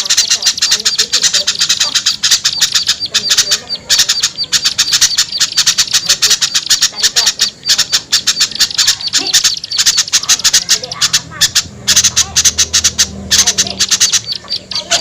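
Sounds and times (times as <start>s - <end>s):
small birds chattering: 0.0s - 15.0s.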